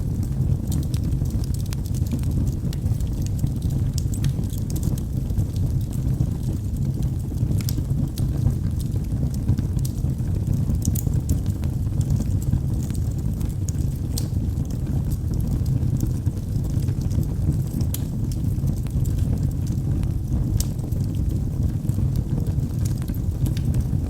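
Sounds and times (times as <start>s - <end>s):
fire crackling and popping: 0.0s - 24.0s
low rumble of fire: 0.0s - 24.0s.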